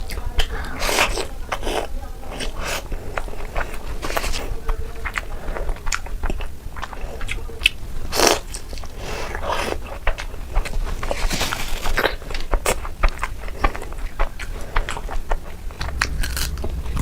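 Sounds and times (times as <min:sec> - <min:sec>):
person chewing crunchy sweets: 0:00.0 - 0:17.0.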